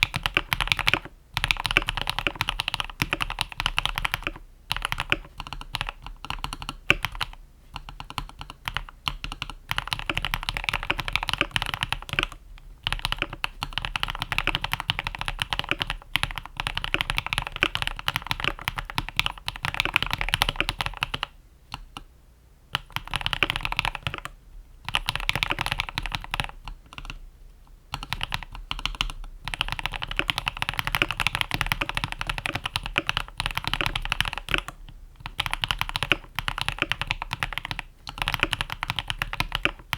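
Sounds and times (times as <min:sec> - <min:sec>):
mechanical keyboard typing: 0:00.0 - 0:22.0, 0:22.7 - 0:27.2, 0:27.9 - 0:39.9.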